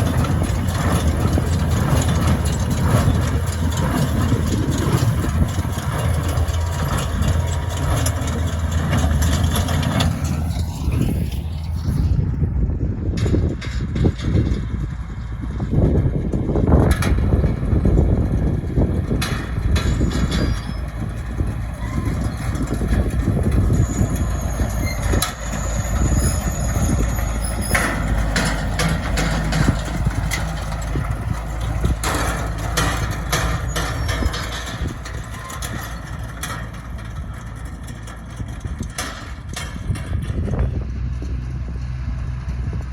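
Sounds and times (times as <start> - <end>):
metallic clanks from hay equipment: 0.0 - 12.0, 16.8 - 40.6
baler mechanical clatter: 0.0 - 42.9
tractor engine humming: 0.0 - 42.9.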